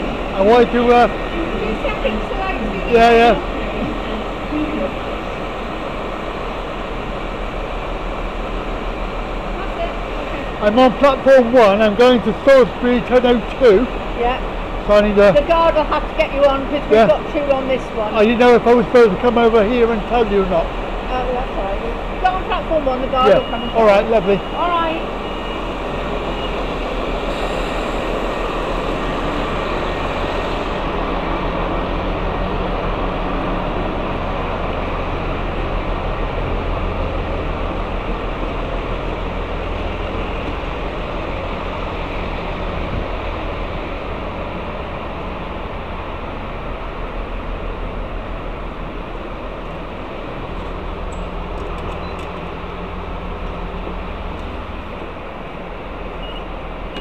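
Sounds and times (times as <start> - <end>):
train rumbling with low throb: 0.0 - 57.0.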